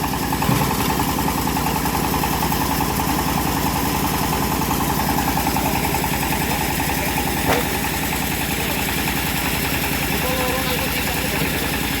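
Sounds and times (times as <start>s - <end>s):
bandsaw sawmill running: 0.0s - 12.0s.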